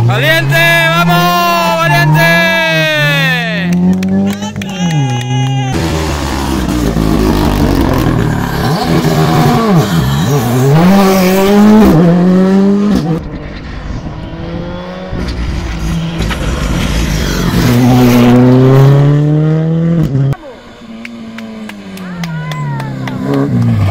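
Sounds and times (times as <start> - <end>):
rally car engines at full throttle: 0.0 - 23.9.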